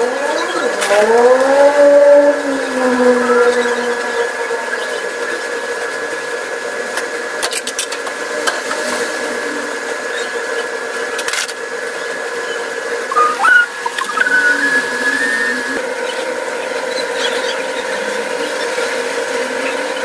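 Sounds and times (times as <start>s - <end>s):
steady hum of held tones: 0.0s - 20.0s.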